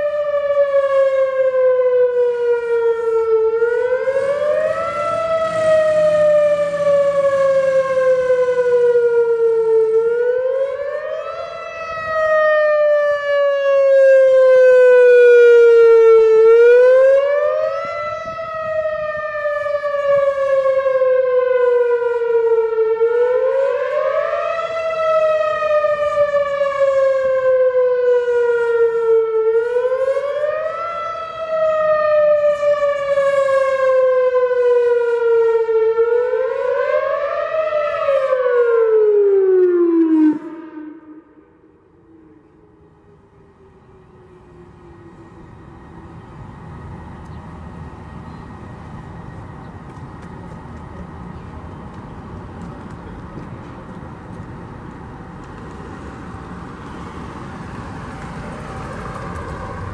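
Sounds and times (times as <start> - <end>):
warning siren wailing: 0.0 - 59.9.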